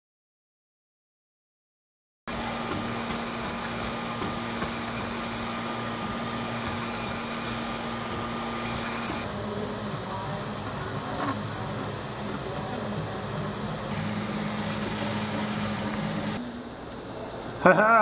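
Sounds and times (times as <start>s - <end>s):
printer fans and motors humming: 2.3s - 18.0s.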